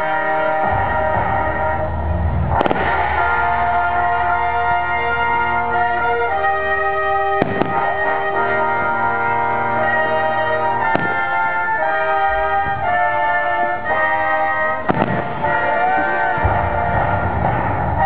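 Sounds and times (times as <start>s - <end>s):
orchestra playing held chords: 0.0s - 18.0s
firework bursts cracking: 2.5s - 17.8s.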